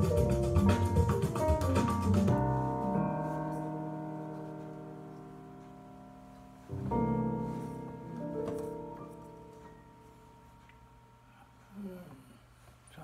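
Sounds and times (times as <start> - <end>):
piano notes on keyboard: 0.0 - 11.4.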